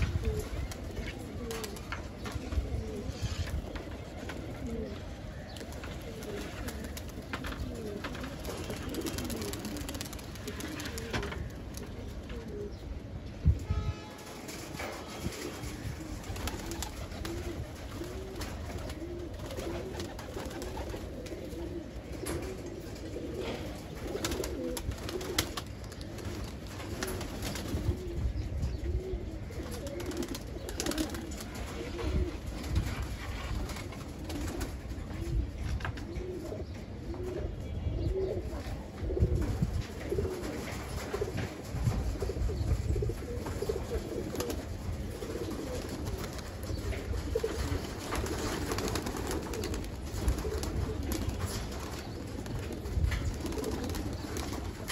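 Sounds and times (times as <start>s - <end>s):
pigeons cooing: 0.0s - 13.2s, 14.7s - 54.9s.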